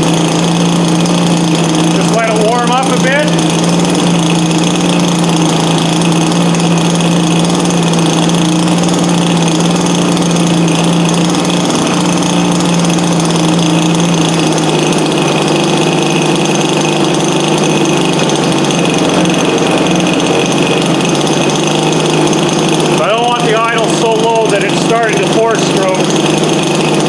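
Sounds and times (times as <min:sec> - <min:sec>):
model plane engine idling: 0:00.0 - 0:27.0.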